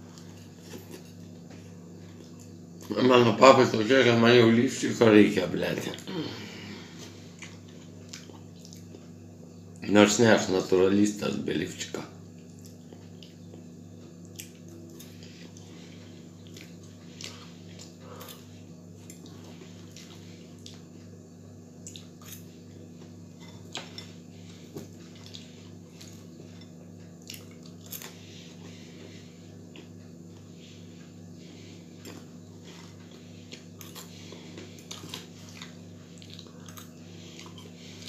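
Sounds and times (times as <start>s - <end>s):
soft chewing: 0.0s - 3.0s, 6.8s - 9.8s, 12.2s - 38.0s.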